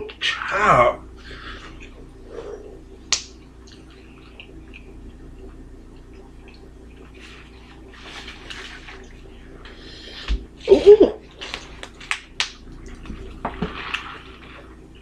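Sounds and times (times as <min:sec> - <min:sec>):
steady low hum: 0:00.0 - 0:15.0
people chewing: 0:01.2 - 0:14.7.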